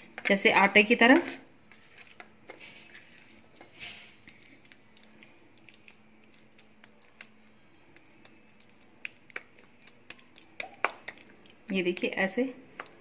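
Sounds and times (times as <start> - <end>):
hands kneading paste squishing: 0.0 - 13.0.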